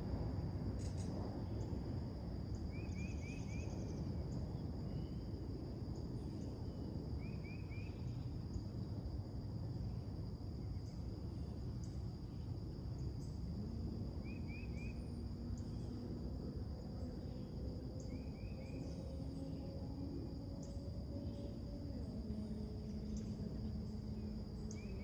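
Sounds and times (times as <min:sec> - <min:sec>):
faint low hum: 0:00.0 - 0:25.0
high insect drone: 0:00.0 - 0:25.0.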